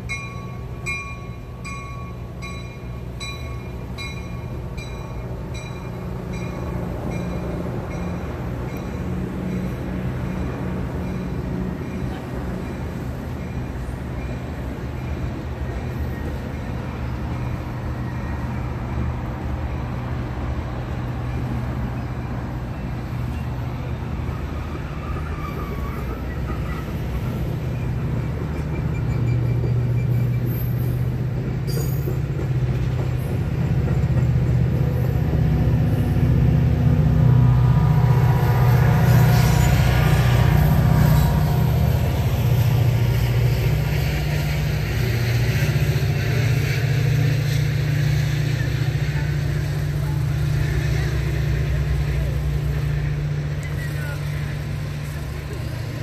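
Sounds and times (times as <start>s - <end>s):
diesel locomotive drone: 0.0s - 56.0s
train wheel noise: 0.0s - 56.0s.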